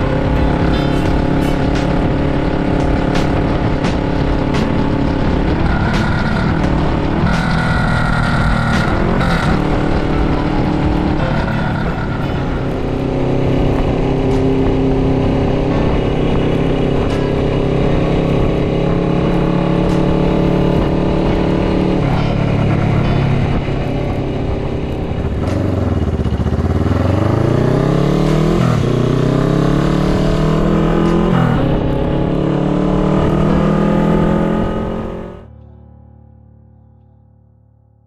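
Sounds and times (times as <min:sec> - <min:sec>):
motorcycle engine running: 0:00.0 - 0:35.5.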